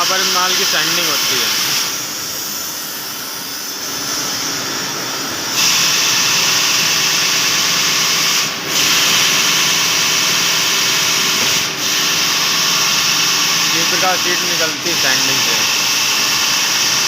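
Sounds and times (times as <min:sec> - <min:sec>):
sanding machine hissing: 0:00.0 - 0:17.0.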